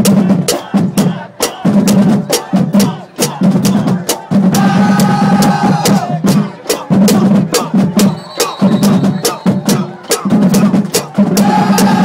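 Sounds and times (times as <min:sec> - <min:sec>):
bass and snare drums: 0:00.0 - 0:12.0.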